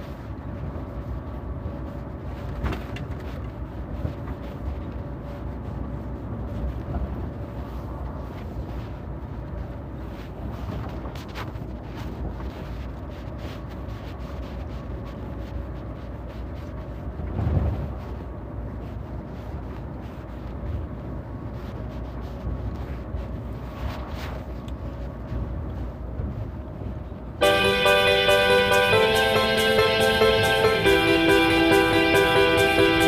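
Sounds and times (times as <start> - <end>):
vehicle driving on road: 0.0 - 27.4.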